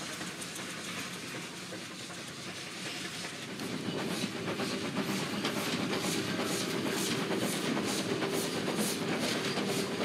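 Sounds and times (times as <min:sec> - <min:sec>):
steam locomotive exhaust beats: 0:00.0 - 0:10.0
train rumbling on track: 0:00.0 - 0:10.0.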